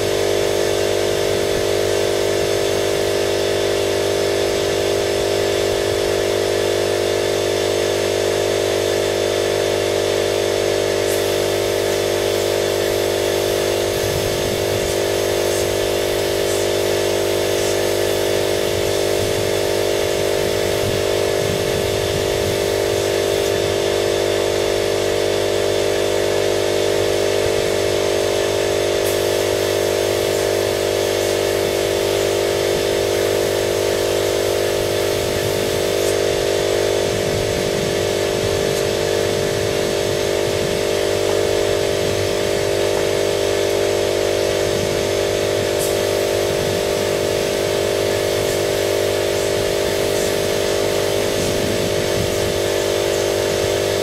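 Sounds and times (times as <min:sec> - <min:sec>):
spray-painting machine drone: 0:00.0 - 0:54.0.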